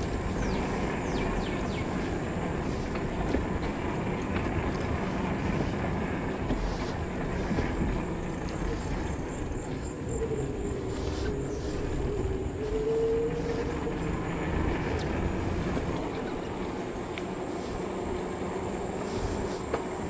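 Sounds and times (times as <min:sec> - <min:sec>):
bike tyres rolling over wooden planks: 0:00.0 - 0:20.0
wind noise on microphone: 0:00.0 - 0:20.0.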